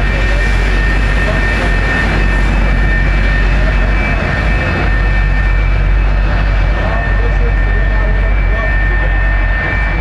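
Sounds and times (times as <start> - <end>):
jet engine running: 0.0 - 10.0.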